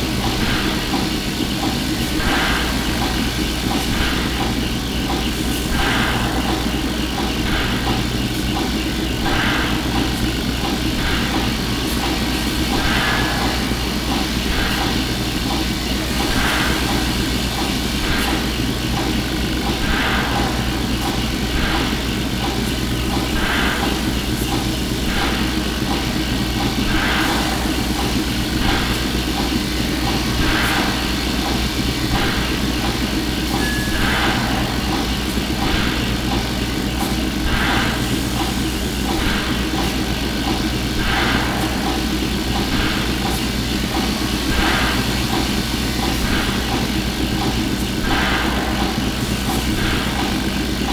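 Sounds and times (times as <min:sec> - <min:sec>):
low machinery hum: 0:00.0 - 0:50.9
soft hissing pulse: 0:00.0 - 0:50.9.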